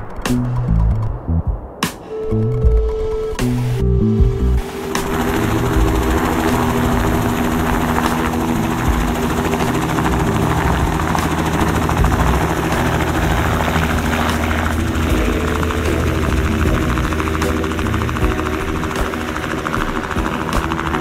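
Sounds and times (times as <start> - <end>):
helicopter rotor noise: 2.6 - 21.0
steady hum: 3.4 - 21.0.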